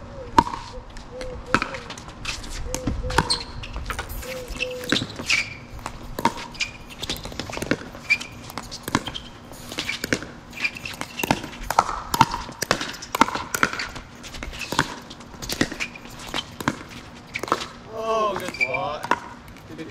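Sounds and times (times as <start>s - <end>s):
ball bouncing on court: 0.4s - 2.0s, 2.7s - 19.6s.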